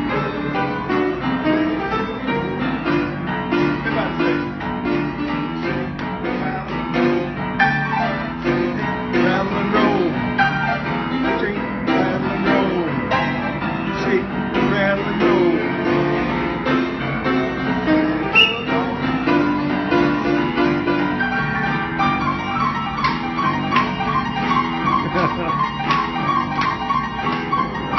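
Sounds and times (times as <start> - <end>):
grand piano playing: 0.0 - 27.9.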